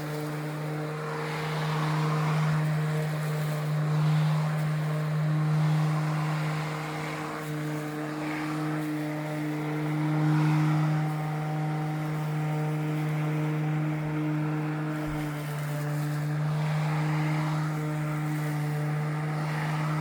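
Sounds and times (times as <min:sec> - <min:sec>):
electric lawn mower humming: 0:00.0 - 0:20.0.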